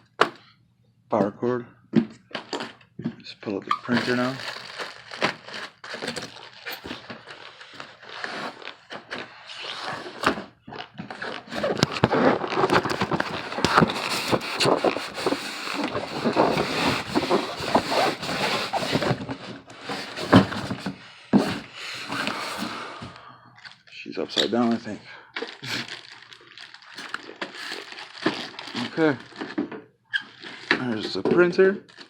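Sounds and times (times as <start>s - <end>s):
cardboard and plastic packaging rustling: 2.3s - 3.1s, 3.7s - 32.0s.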